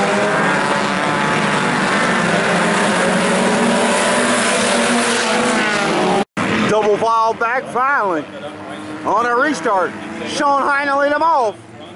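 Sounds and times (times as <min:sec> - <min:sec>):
race car engines droning: 0:00.0 - 0:11.9.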